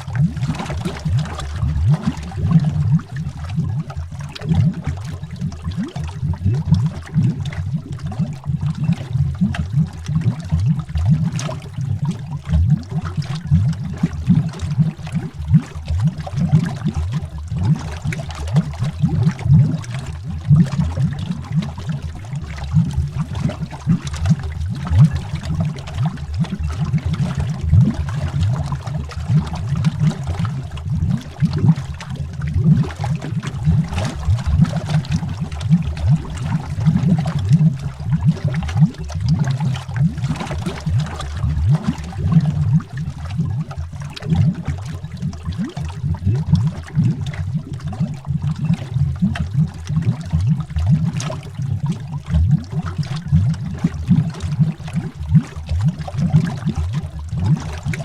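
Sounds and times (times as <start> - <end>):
underwater bubbling: 0.0 - 58.0.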